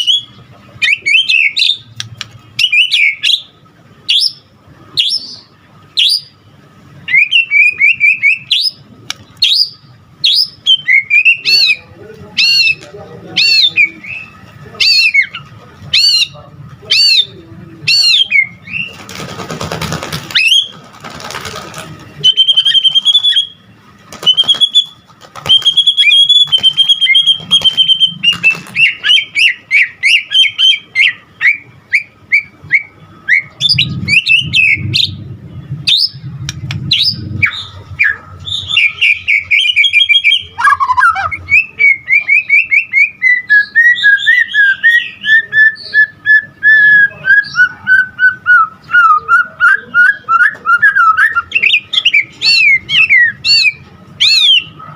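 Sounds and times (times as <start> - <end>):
bird singing: 0.0 - 2.0, 2.6 - 19.0, 22.2 - 54.9.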